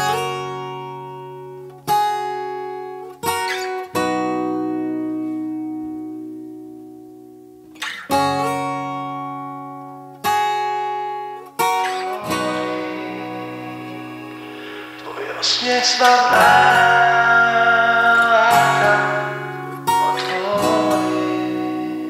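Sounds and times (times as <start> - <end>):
acoustic guitar strummed chords: 0.0 - 22.0.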